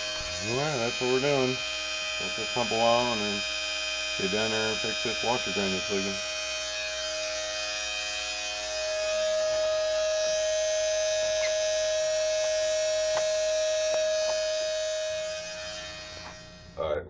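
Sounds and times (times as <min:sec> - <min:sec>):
electric water pump motor hum: 0:00.0 - 0:16.9.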